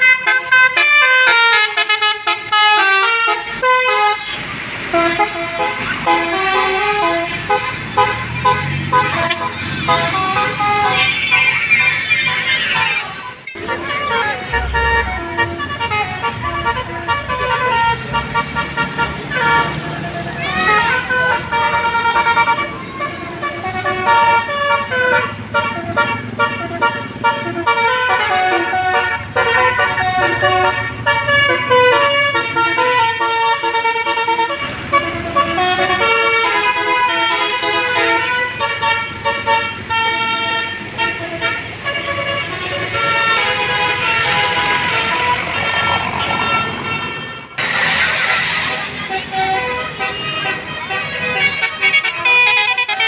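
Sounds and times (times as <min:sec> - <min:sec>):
multi-tone horn melody: 0:00.0 - 0:53.0
vehicle engine rumbling: 0:00.0 - 0:53.0.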